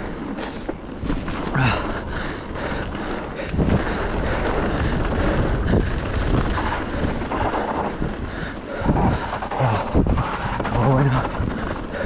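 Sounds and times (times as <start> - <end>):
tyres rolling on loose dirt: 0.0 - 12.0
wind buffeting microphone: 0.0 - 12.0.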